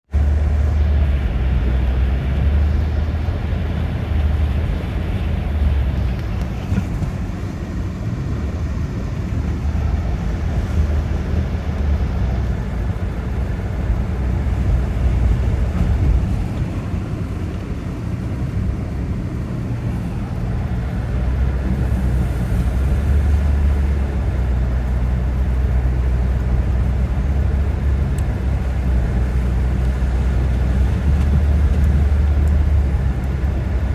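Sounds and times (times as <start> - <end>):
car driving on snowy road: 0.1 - 33.9.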